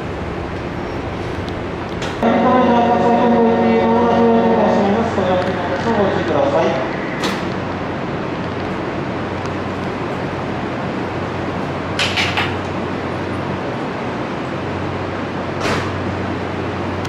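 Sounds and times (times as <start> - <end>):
electric train equipment hum: 0.0 - 17.0.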